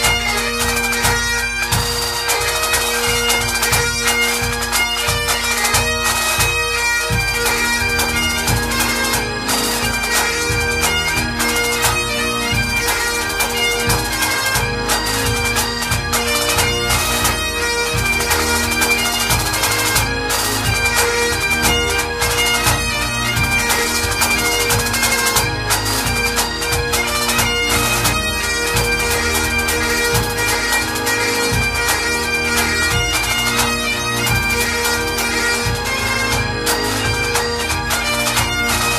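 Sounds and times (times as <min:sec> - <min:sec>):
bagpipes playing a tune: 0:00.0 - 0:38.9.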